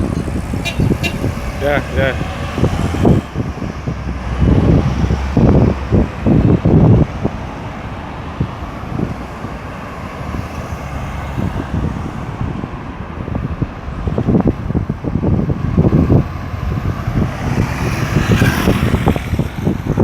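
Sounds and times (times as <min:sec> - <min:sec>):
cars running past: 0:00.0 - 0:20.0
traffic rumble: 0:00.0 - 0:20.0.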